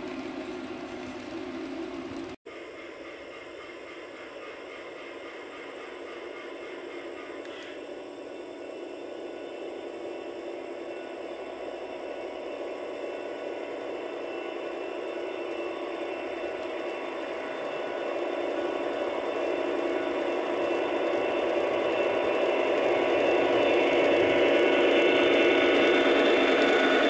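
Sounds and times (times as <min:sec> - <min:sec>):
model diesel engine sound: 0:00.0 - 0:02.4, 0:06.6 - 0:27.0
wheels rolling on track: 0:00.0 - 0:02.4, 0:07.4 - 0:27.0.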